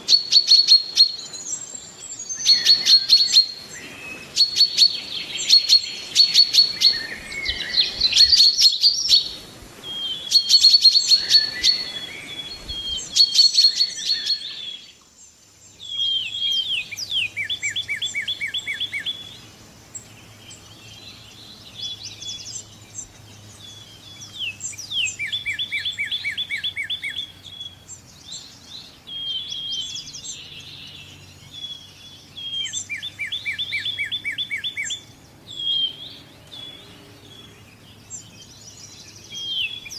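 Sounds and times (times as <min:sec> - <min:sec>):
bird trills: 0:00.0 - 0:15.0, 0:21.8 - 0:39.9
songbirds chirping: 0:00.0 - 0:39.9.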